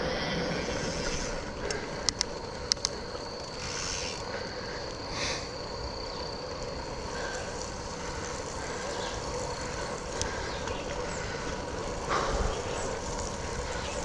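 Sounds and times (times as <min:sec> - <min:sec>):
bicycle rolling on wet path: 0:00.0 - 0:14.0.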